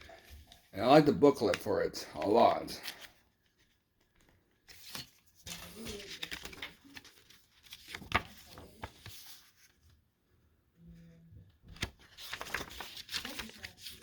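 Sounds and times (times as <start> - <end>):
paper pages rustling: 0.0 - 0.7, 1.4 - 10.1, 11.6 - 14.0.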